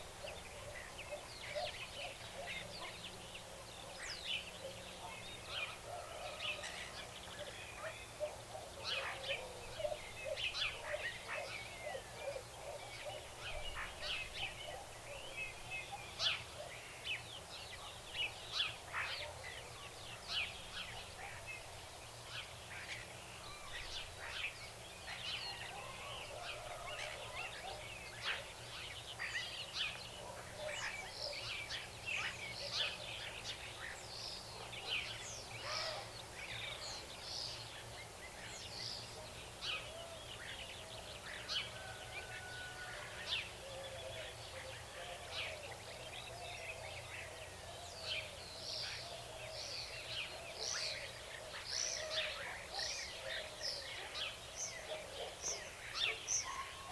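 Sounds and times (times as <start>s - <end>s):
faint background hiss: 0.0s - 56.9s
many birds chirping: 0.0s - 56.9s.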